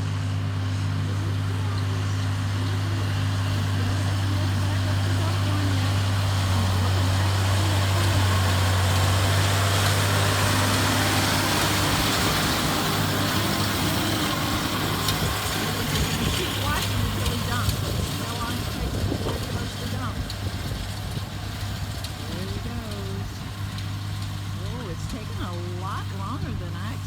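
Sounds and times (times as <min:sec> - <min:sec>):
round baler machinery: 0:00.0 - 0:27.0
tractor engine running: 0:00.0 - 0:27.0.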